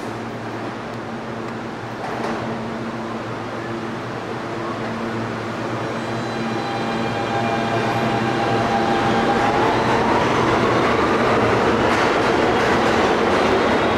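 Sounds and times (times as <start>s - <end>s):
subway train pulling out: 0.0s - 13.9s.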